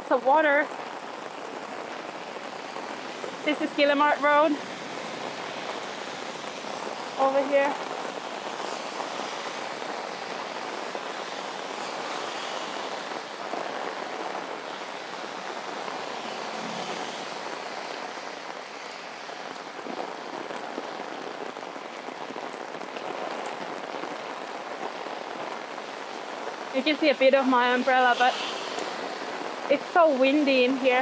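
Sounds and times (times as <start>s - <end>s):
heavy rain drumming on umbrella: 0.0s - 31.0s
cars swishing past on wet road: 1.4s - 20.7s, 24.2s - 31.0s.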